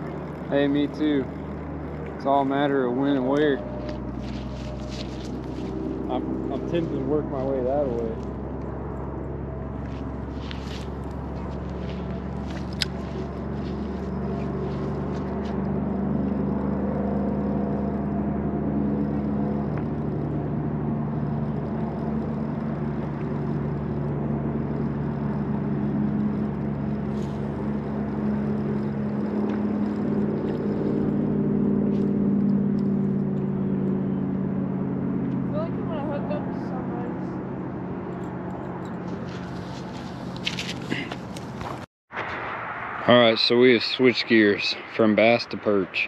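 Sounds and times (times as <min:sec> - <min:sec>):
motor drone: 0:00.0 - 0:41.8.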